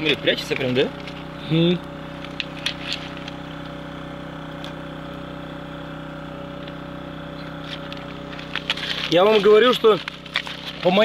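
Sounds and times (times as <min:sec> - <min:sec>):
motor idling: 0:00.0 - 0:11.0.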